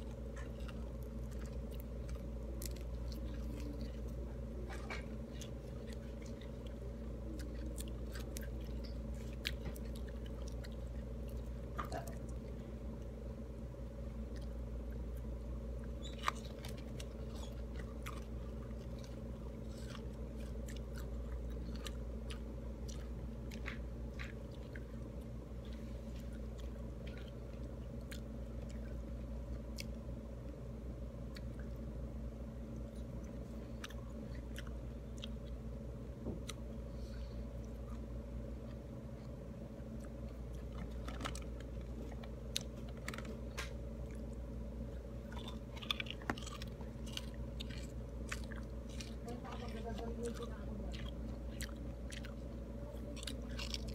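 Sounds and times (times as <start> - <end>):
chewing and wet mouth clicks: 0.0 - 13.1, 14.2 - 30.6, 31.2 - 31.9, 32.6 - 35.6, 37.6 - 53.9.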